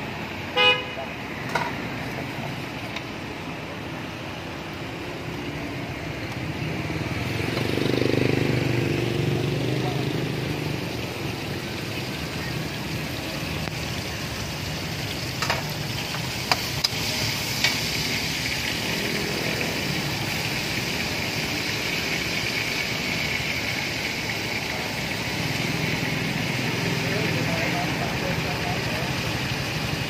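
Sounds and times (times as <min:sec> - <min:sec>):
meat sizzling in a wok: 0:04.2 - 0:30.0.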